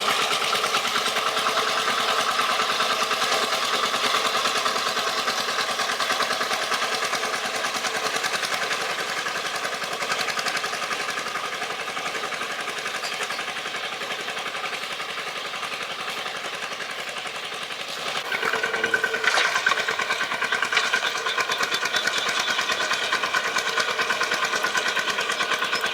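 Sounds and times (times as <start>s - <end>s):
small engine rattly buzz: 0.0s - 25.9s.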